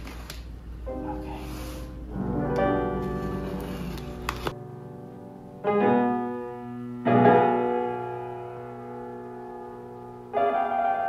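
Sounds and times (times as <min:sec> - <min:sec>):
piano-like keyboard chords: 0:00.7 - 0:11.0.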